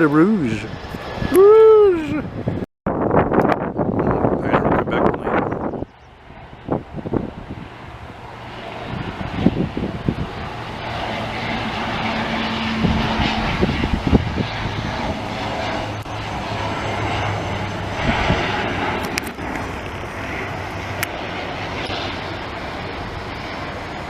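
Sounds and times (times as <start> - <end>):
jet engines taking off: 0.0 - 24.0.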